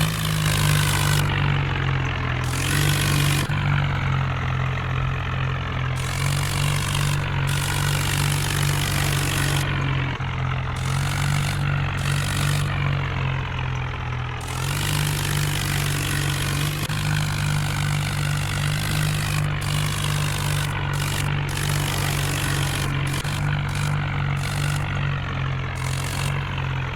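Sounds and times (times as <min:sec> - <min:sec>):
diesel engine droning: 0:00.0 - 0:26.9.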